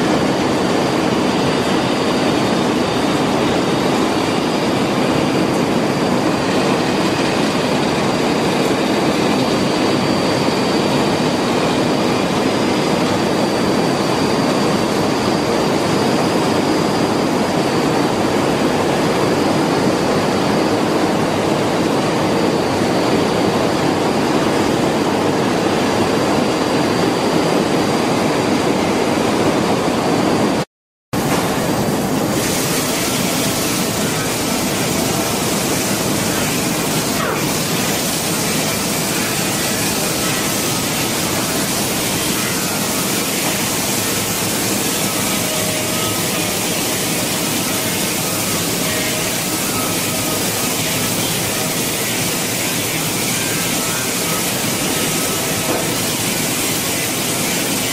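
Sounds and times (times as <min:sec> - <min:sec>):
ventilation fans and machinery: 0:00.0 - 0:57.9.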